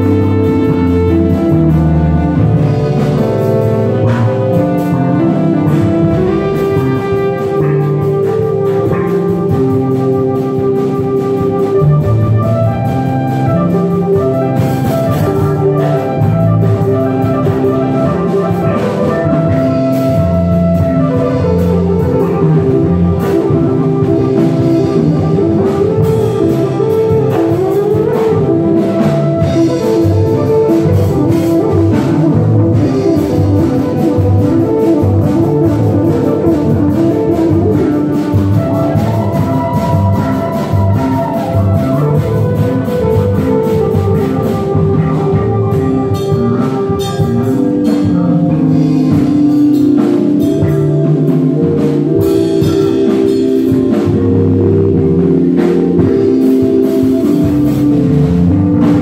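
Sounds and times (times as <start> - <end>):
drum kit: 0.0 - 59.0
keyboards: 0.0 - 59.0
live band playing: 0.0 - 59.0.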